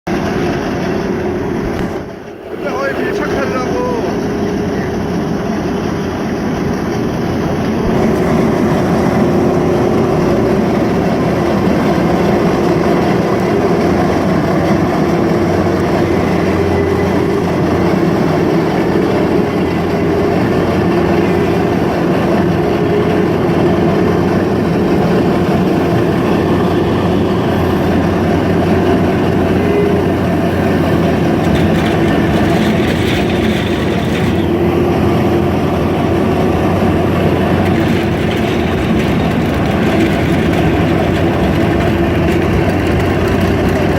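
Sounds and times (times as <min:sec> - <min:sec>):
loader with crusher running: 0:00.1 - 0:43.9.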